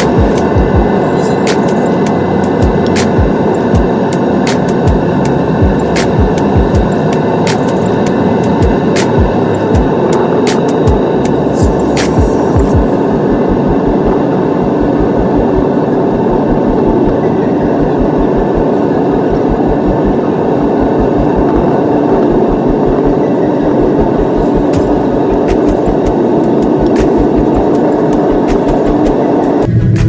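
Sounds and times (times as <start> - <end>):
fast low thudding: 0.0 - 1.0, 2.6 - 4.0, 4.9 - 7.2, 8.6 - 29.2
airplane cabin engine roar: 0.0 - 30.0.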